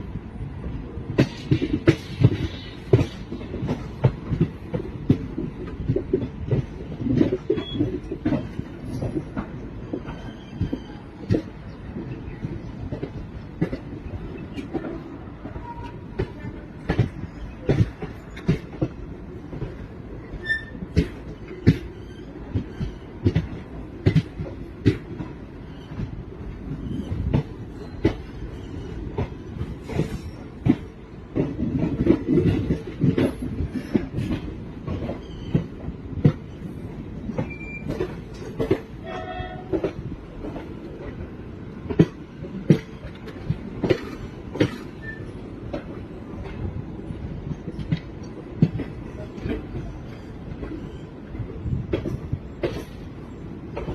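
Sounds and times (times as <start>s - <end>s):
train rumbling: 0.0s - 53.9s
wheels clanking on track: 1.1s - 53.9s.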